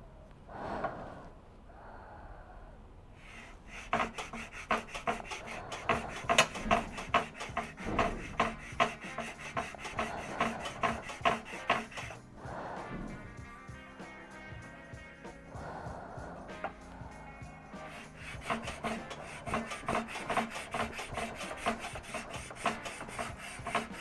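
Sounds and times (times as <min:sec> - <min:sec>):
file scraping metal: 0:03.2 - 0:24.0.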